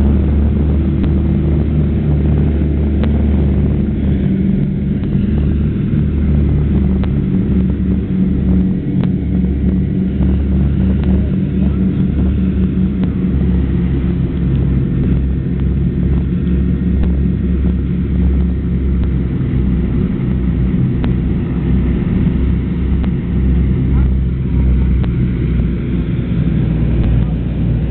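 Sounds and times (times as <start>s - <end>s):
propeller plane engines droning: 0.0s - 27.9s.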